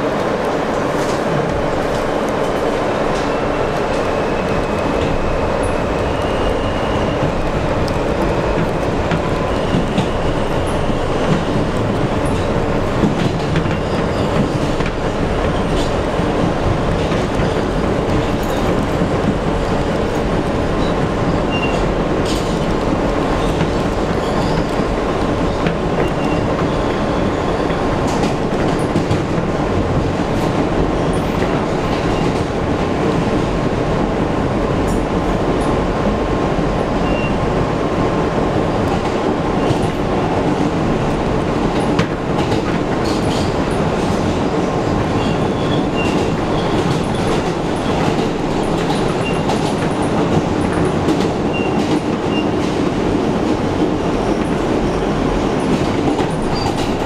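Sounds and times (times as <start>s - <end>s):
subway train wheels rumbling: 0.0s - 57.0s.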